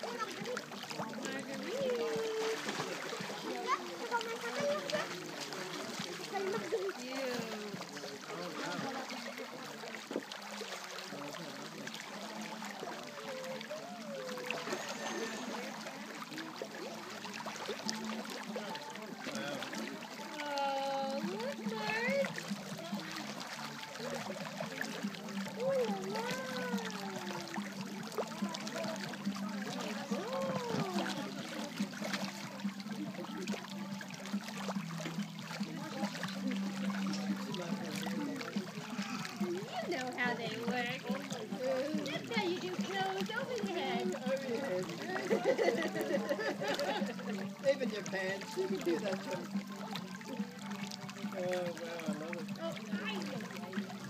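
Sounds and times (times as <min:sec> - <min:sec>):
pool water lapping and trickling: 0:00.0 - 0:54.0
small splashes and drips: 0:00.0 - 0:54.0.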